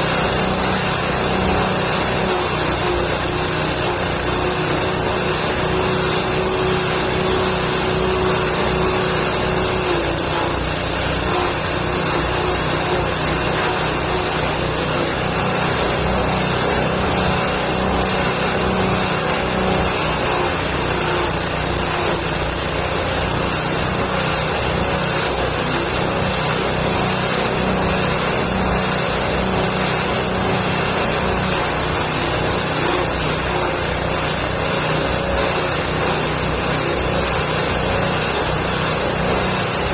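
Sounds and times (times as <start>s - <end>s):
feed chopper machine drone: 0.0s - 39.9s.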